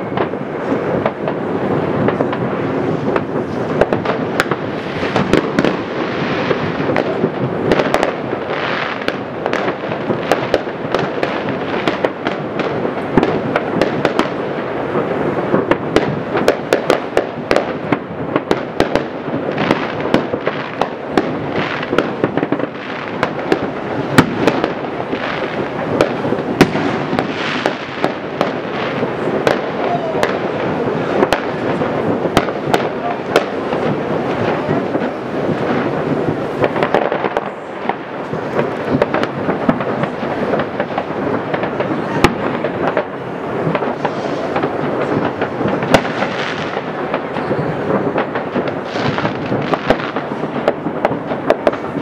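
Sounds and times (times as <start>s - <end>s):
distant fireworks bangs and crackles: 0.0s - 52.0s
loud firework bangs: 0.0s - 52.0s.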